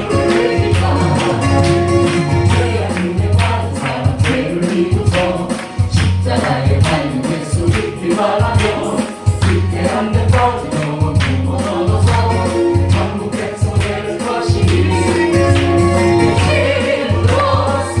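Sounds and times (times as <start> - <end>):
band playing praise music: 0.0 - 18.0.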